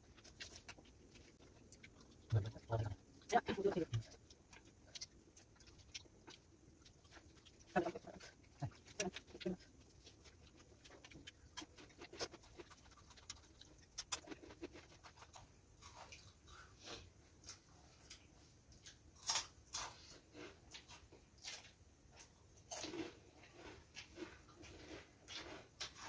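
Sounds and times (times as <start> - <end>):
chewing and smacking: 0.0 - 26.0.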